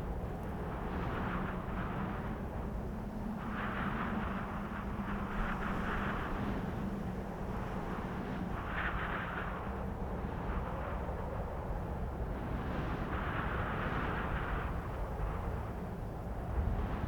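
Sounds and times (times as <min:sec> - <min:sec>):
wind blowing with low rumble: 0:00.0 - 0:17.0.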